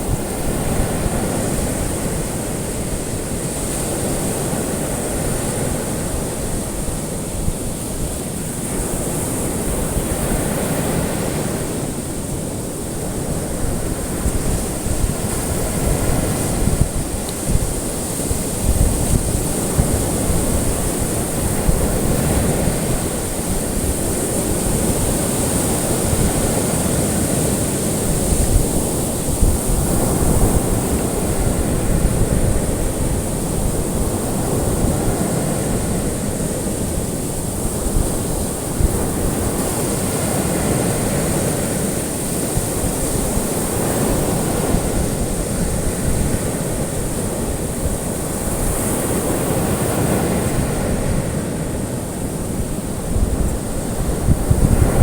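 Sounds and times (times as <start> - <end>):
ocean waves washing onto shore: 0.0 - 55.0.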